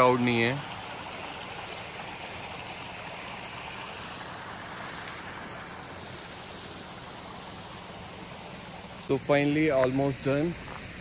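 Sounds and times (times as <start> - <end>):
steady outdoor rushing noise: 0.0 - 11.0.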